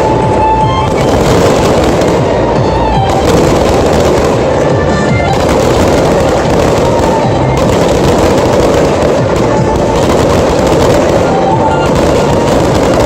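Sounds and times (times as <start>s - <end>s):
fireworks bursts and crackling: 0.0s - 13.0s
music playing: 0.0s - 13.0s.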